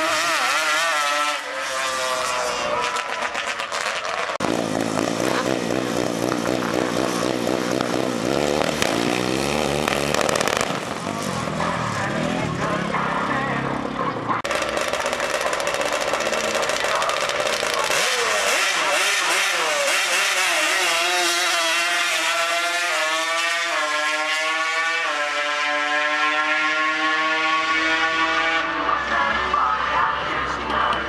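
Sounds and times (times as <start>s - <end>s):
atv engine accelerating: 0.0s - 31.0s.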